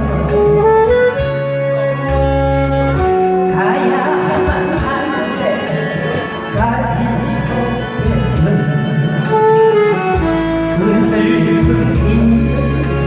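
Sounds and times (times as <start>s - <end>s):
instrumental backing track: 0.0s - 13.0s.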